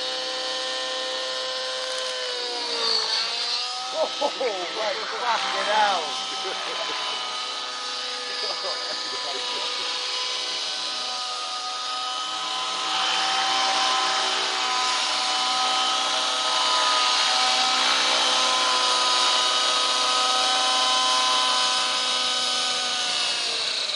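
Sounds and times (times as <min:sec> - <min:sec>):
model helicopter engine whining: 0:00.0 - 0:23.9.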